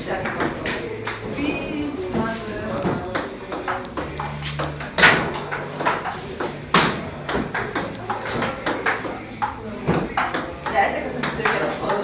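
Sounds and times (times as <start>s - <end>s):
table tennis ball clicking: 0.2s - 1.3s, 2.7s - 12.0s.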